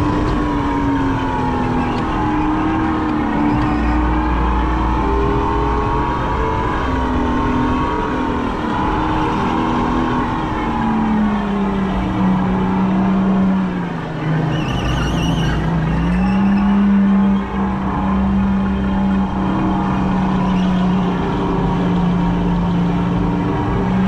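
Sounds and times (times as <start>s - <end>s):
go-kart motor whining: 0.0s - 24.0s
wavering squeal: 0.0s - 24.0s
wind and road noise: 0.0s - 24.0s.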